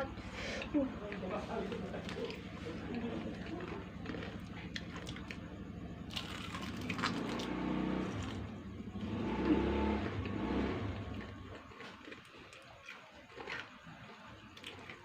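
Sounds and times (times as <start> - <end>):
crunchy chewing: 0.6 - 15.0.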